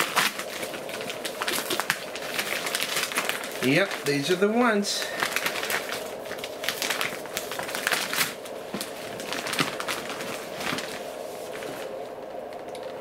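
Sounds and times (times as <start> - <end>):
padded envelope crinkling: 0.0 - 13.0.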